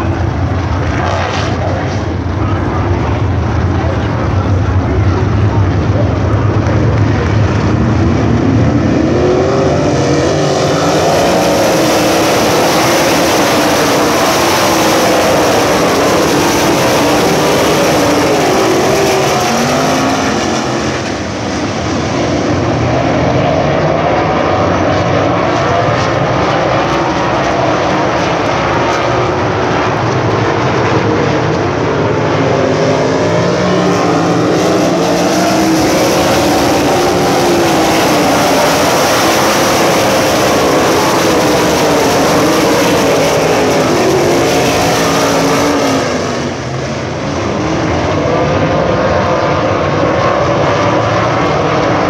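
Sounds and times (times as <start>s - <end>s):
race car engines: 0.0s - 52.0s.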